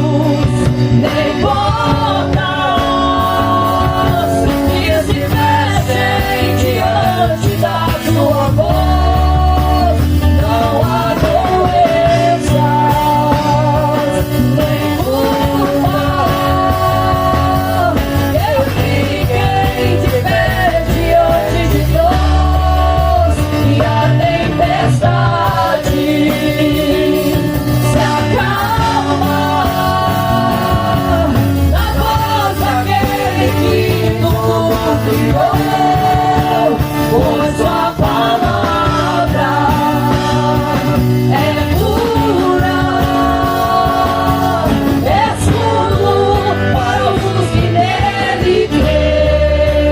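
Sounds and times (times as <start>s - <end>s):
live gospel band music: 0.0s - 49.9s.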